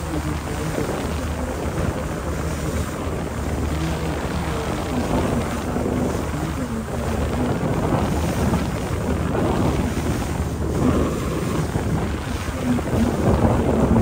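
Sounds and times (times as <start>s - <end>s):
boat engine droning: 0.0s - 14.0s
wind buffeting microphone: 0.0s - 14.0s.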